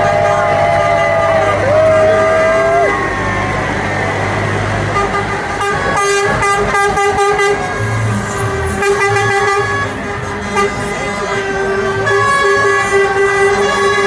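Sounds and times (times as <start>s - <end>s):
vehicle horn honking: 0.0s - 3.0s, 4.8s - 14.0s
passing vehicle engines rumbling: 0.0s - 14.0s.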